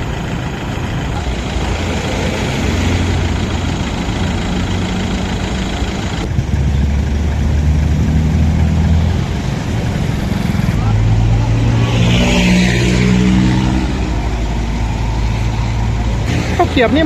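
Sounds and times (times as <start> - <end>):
heavier engine idling close by: 0.0 - 11.8, 13.6 - 17.0
vehicle engines idling in traffic: 0.0 - 17.0.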